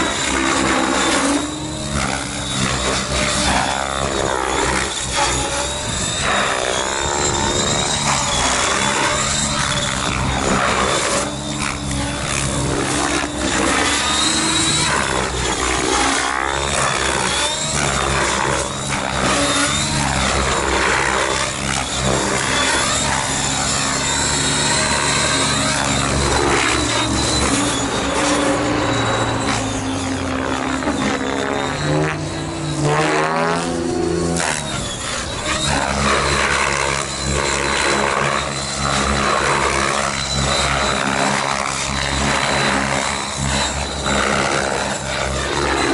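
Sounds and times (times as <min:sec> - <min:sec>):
model helicopter flying: 0:00.0 - 0:45.9.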